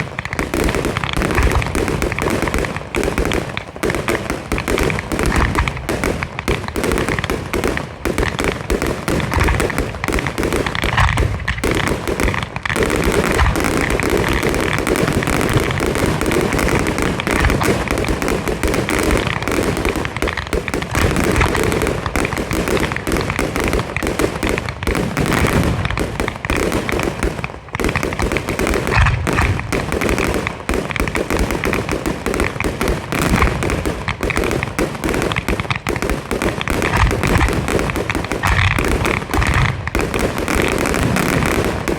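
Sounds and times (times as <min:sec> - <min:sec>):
fireworks crackling: 0:00.0 - 0:41.9
fireworks launches and bursts: 0:00.0 - 0:41.9.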